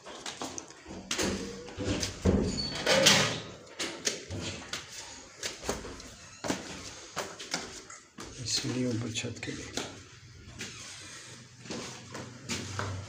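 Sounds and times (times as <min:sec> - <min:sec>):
footsteps in sandals on tiled stairs: 0:00.0 - 0:02.7, 0:03.6 - 0:13.0.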